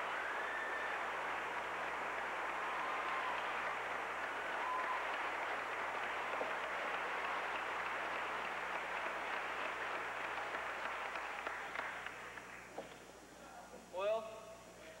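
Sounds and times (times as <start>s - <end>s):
audience applauding: 0.0s - 12.7s
faint low hum: 0.0s - 15.0s.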